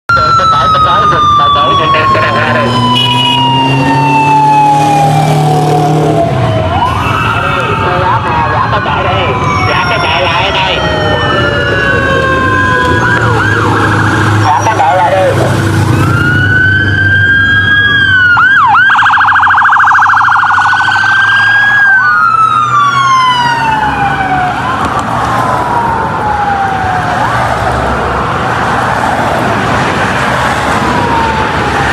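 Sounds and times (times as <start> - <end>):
police siren wailing and yelping: 0.1 - 31.9.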